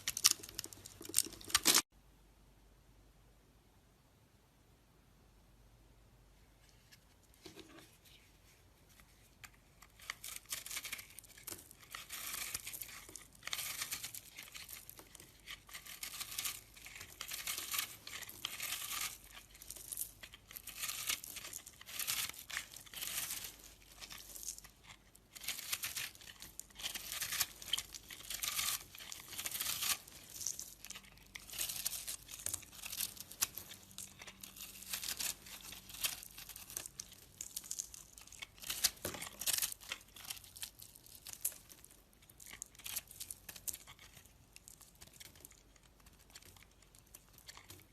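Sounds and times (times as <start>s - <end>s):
knife shaving soap: 9.4s - 47.9s.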